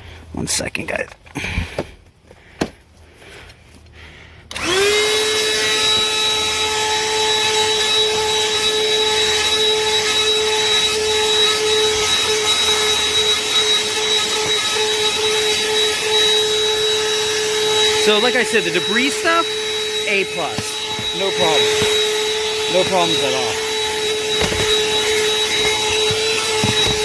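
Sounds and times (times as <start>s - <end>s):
handheld vacuum whining: 4.5s - 27.0s.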